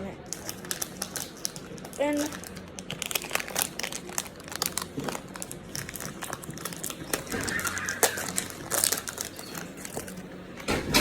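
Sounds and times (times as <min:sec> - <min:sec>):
packaging crinkling: 0:00.3 - 0:10.7.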